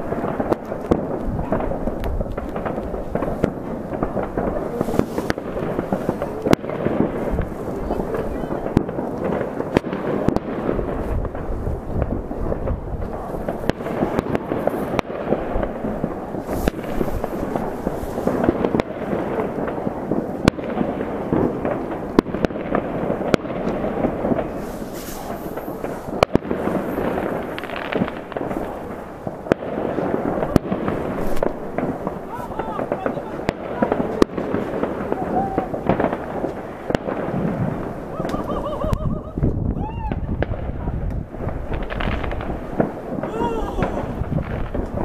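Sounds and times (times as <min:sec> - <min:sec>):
distant fireworks crackling: 0:00.0 - 0:45.0
loud firework bangs: 0:00.0 - 0:45.0.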